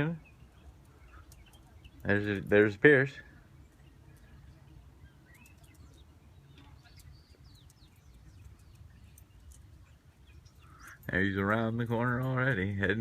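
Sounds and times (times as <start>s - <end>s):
faint birds chirping: 0.0s - 13.0s
low outdoor rumble: 0.0s - 13.0s.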